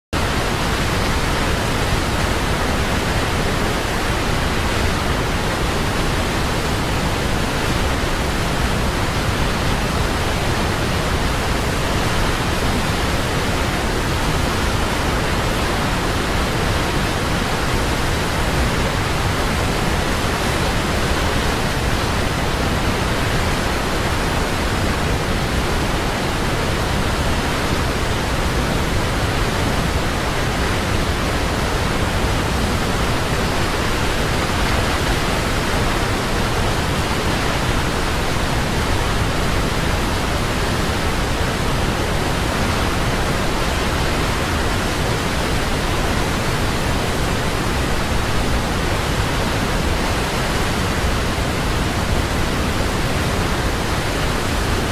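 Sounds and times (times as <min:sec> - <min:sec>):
waterfall roaring: 0:00.2 - 0:54.9.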